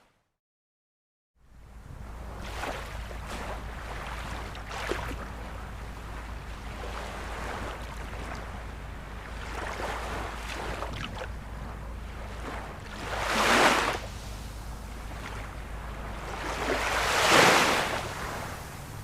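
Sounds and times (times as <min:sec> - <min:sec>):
low surf rumble: 0:01.4 - 0:19.0
ocean waves washing ashore: 0:01.5 - 0:19.0.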